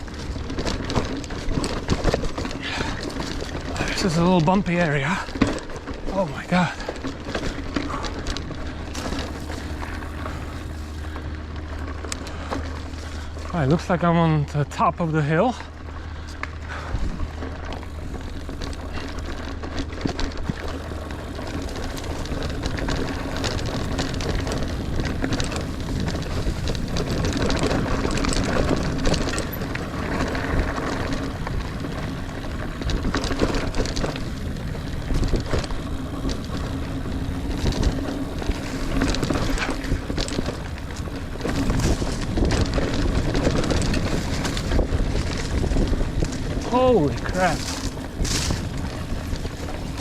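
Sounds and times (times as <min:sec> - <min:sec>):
bike rattling over bumps: 0:00.0 - 0:50.0
bike tyres rumbling on dirt: 0:00.0 - 0:50.0.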